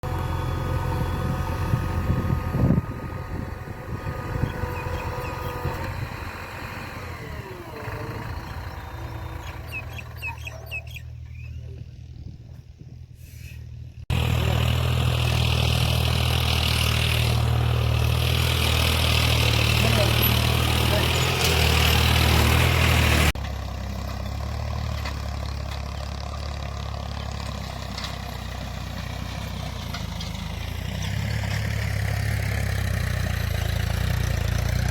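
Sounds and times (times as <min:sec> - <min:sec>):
heavy diesel engines running: 0:00.0 - 0:34.9.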